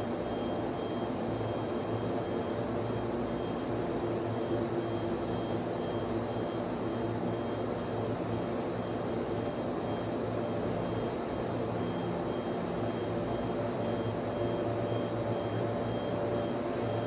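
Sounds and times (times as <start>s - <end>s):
server cooling fans humming: 0.0s - 17.0s.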